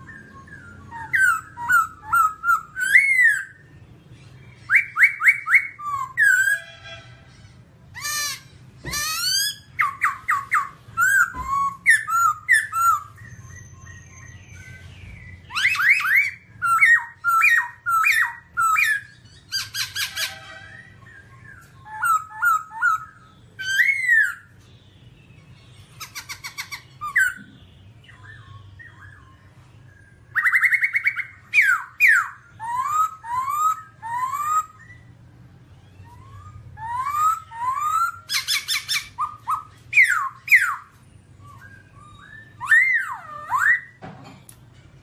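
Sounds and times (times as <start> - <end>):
bird singing whistled phrases: 0.0 - 3.6, 4.2 - 6.7, 8.0 - 24.6, 26.0 - 44.0.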